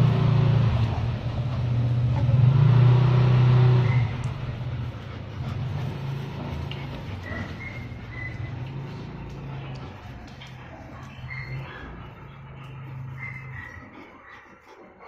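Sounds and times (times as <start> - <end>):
vehicle engine running: 0.0 - 14.2.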